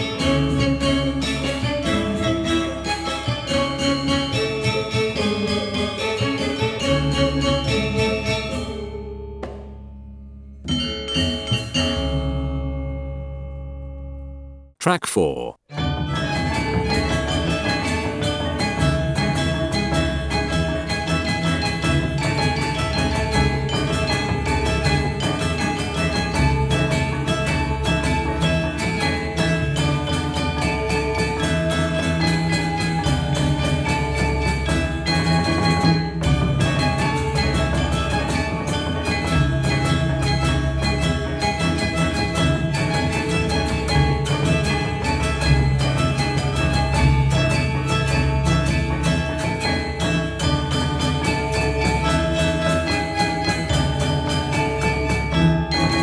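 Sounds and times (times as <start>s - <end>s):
gamelan ensemble playing: 0.0s - 13.6s, 15.7s - 56.0s.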